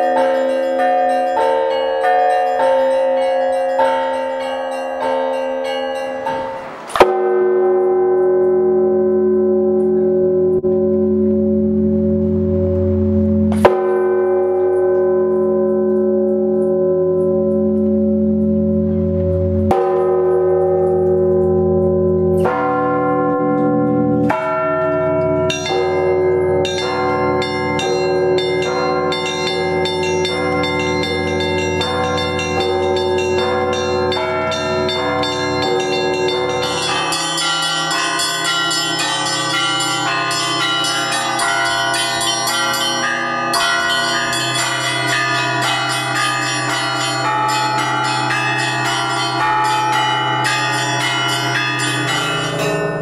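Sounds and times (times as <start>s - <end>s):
heavy church bell strokes: 0.0s - 53.0s
smaller bells striking fast: 0.0s - 53.0s.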